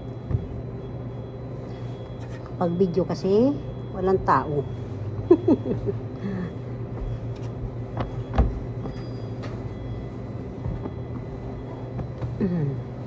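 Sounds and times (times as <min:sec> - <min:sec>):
washing machines and dryers humming: 0:00.0 - 0:13.0.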